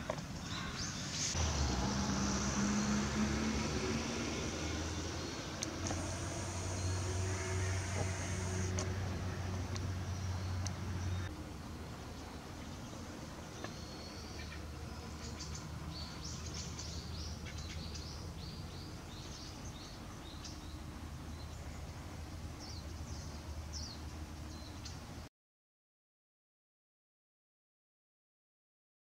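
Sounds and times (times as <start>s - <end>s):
small birds chirping: 0.0s - 11.3s, 12.1s - 25.0s
low outdoor hum: 0.0s - 25.3s.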